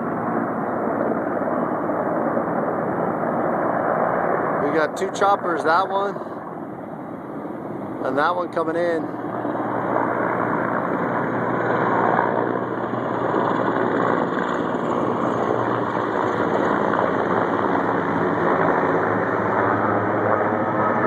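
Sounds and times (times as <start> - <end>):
helicopter rotor and engine drone: 0.0 - 21.0.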